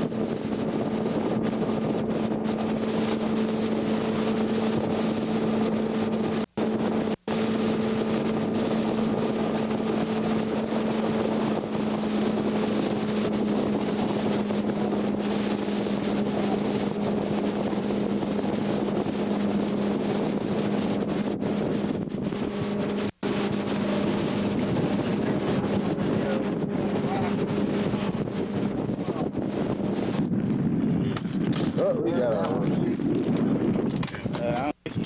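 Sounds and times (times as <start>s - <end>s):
motorboat engine humming: 0.0s - 35.0s
wind noise on microphone: 0.0s - 35.0s.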